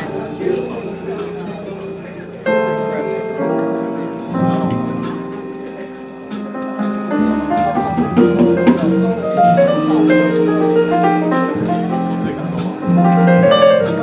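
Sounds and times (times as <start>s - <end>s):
drums: 0.0s - 14.0s
sustained keyboard chords: 0.0s - 14.0s.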